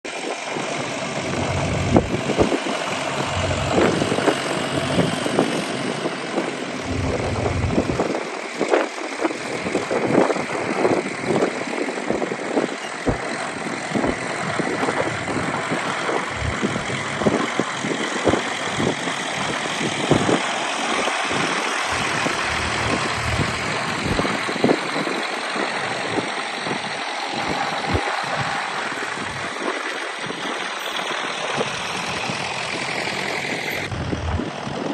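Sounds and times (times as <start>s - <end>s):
tractor diesel engines running: 0.1s - 34.9s.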